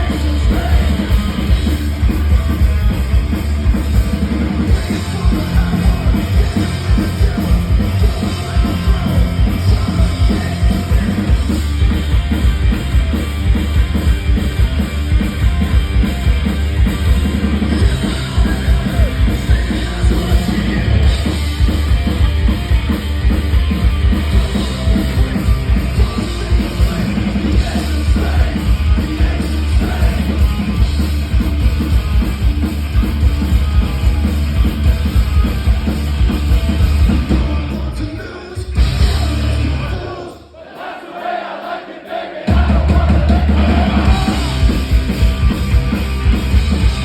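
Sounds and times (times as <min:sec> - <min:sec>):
live rock band playing: 0:00.0 - 0:40.1, 0:42.5 - 0:47.0.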